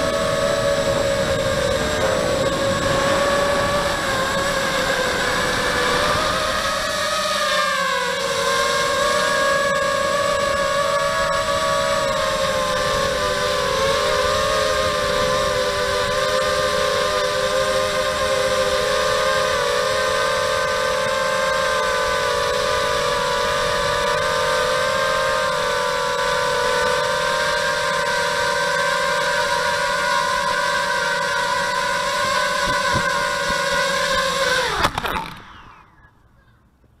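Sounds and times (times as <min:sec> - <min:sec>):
quadcopter motors whining: 0:00.0 - 0:37.0.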